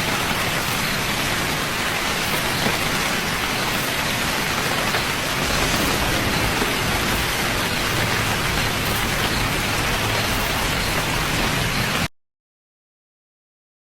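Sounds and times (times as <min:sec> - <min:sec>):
steady rain falling: 0:00.0 - 0:12.1.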